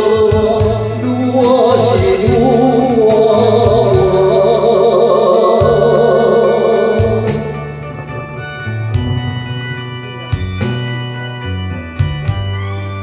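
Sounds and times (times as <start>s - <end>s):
keyboard chords: 0.0s - 13.0s
pop song on electronic organ: 0.0s - 13.0s.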